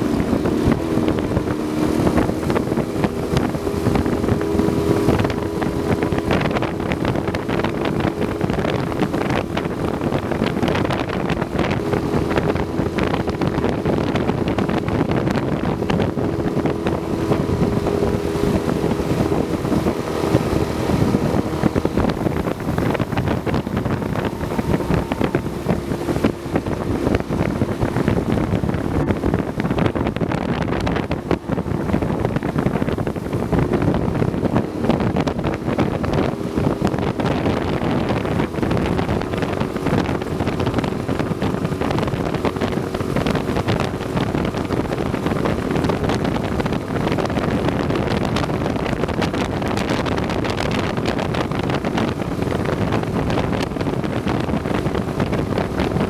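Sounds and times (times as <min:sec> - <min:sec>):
boat motor droning: 0:00.0 - 0:56.0
wind on microphone: 0:00.0 - 0:56.0.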